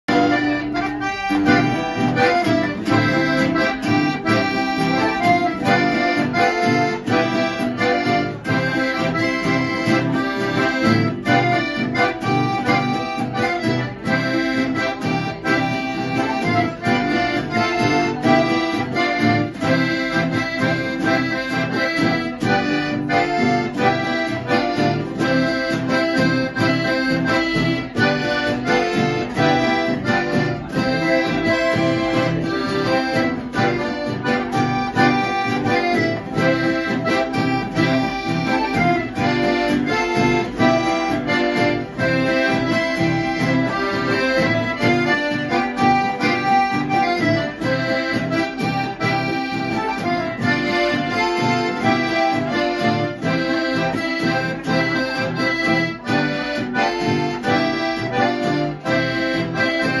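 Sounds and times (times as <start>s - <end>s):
button accordions playing: 0.0s - 60.0s.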